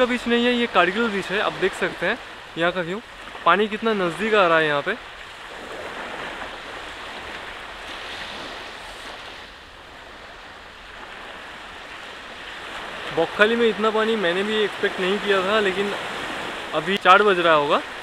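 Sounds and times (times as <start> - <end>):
sea waves washing onto beach: 0.0 - 18.0.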